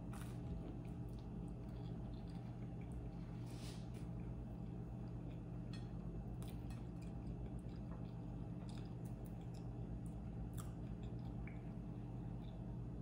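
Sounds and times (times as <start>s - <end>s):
person chewing with mouth closed: 0.0s - 12.8s
steady low hum: 0.0s - 13.0s.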